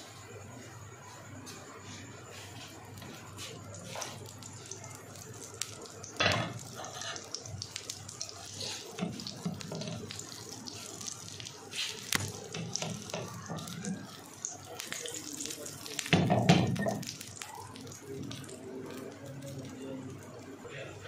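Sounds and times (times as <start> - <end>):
food sizzling in a pan: 2.3 - 21.0.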